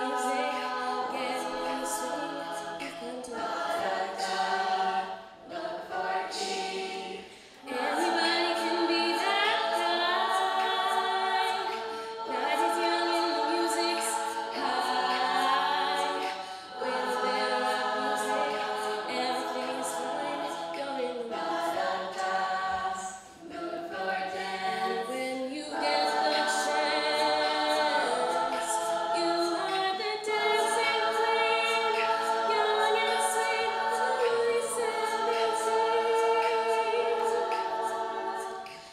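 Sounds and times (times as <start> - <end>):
women singing a cappella: 0.0 - 38.9.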